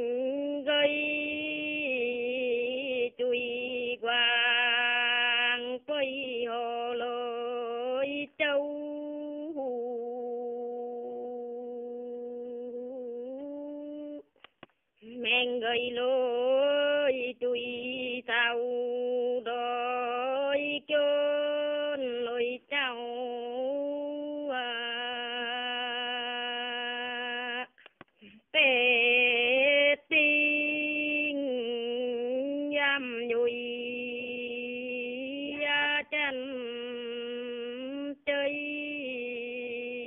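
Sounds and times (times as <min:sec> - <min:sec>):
woman singing unaccompanied: 0:00.0 - 0:14.4, 0:15.0 - 0:40.0.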